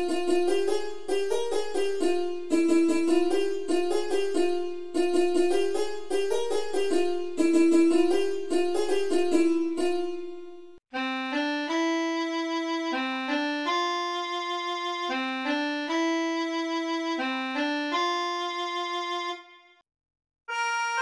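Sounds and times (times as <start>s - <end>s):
harmonium melody: 0.0s - 19.8s, 20.5s - 21.0s.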